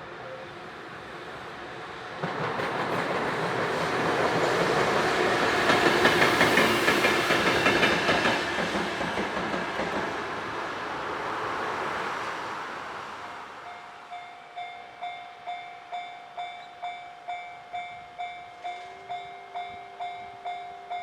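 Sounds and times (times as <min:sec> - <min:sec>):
freight train rumble: 0:00.0 - 0:21.0.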